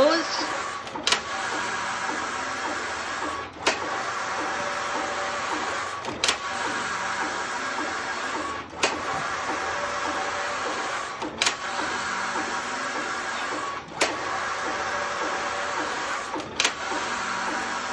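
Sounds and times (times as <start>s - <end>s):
knitting machine lock running: 0.0s - 17.9s
sharp clack of lock reversing: 0.8s - 17.7s.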